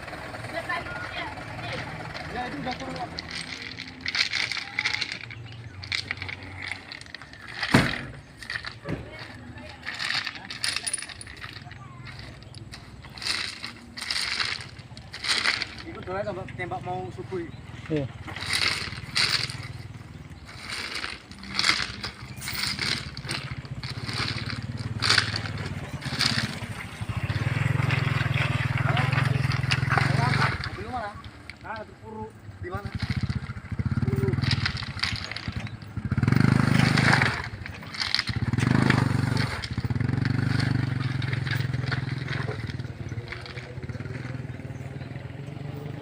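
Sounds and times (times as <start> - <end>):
gravel crunching: 0.0 - 46.0
truck engine idling: 0.0 - 46.0
metallic clinks and knocks: 1.6 - 17.3, 18.1 - 31.9, 32.8 - 44.5.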